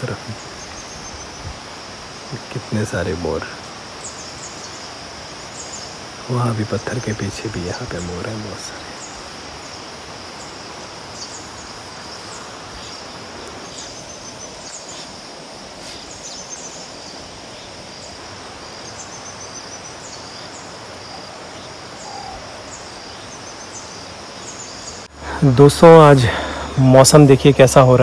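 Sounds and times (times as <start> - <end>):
bird chirps and trills: 0.0 - 1.6, 2.3 - 15.2, 15.8 - 27.6
continuous rain hiss: 0.0 - 28.0
high insect drone: 0.0 - 28.0.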